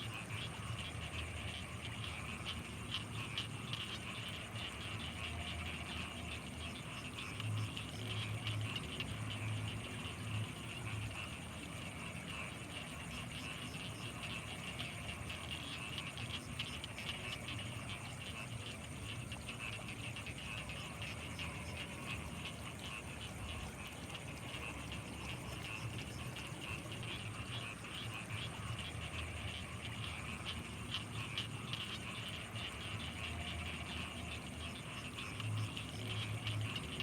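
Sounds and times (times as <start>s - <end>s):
frogs pulsing calls: 0.0s - 37.0s
high insect whine: 0.0s - 37.0s.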